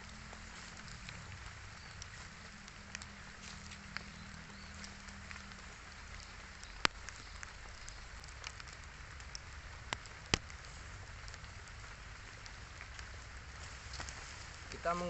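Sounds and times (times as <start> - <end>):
light drizzle hissing: 0.0 - 15.0
sharp raindrop ticks: 0.0 - 15.0.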